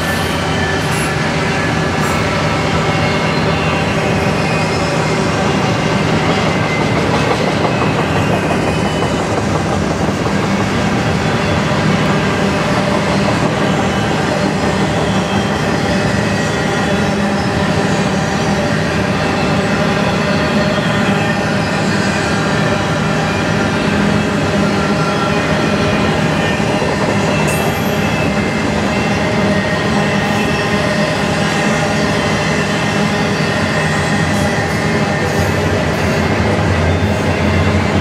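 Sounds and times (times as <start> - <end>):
steel wheels rumbling on rails: 0.0 - 38.0.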